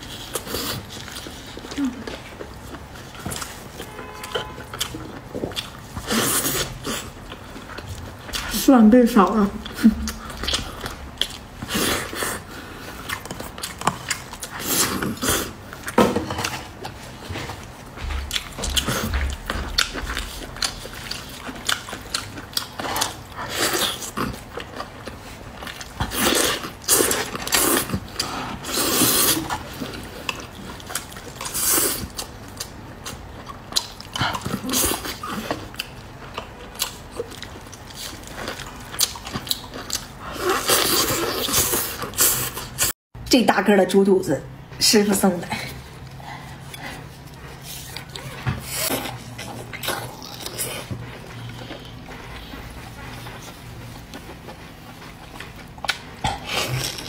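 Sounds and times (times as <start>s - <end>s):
wet chewing and lip smacking: 0.0s - 8.6s, 9.3s - 42.9s, 45.9s - 57.0s.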